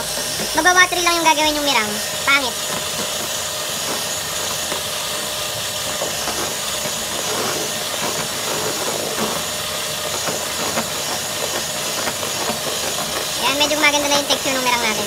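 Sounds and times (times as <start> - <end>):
electric hand mixer whipping: 0.0 - 15.0.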